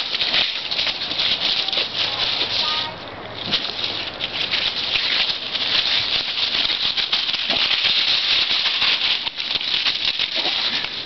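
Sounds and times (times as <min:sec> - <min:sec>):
dry leaves crunching underfoot: 0:00.0 - 0:11.0.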